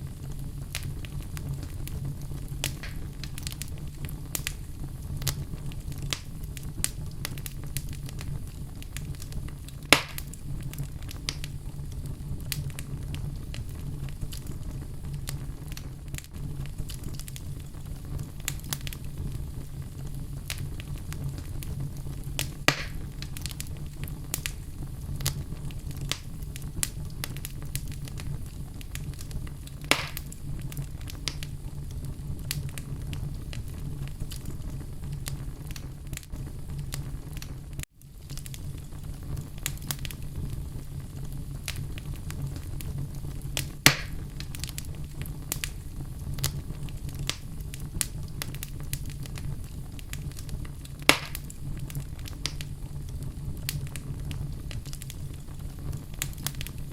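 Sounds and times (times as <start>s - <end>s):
loud fire pops: 0.0s - 56.9s
wood fire crackling: 0.0s - 56.9s.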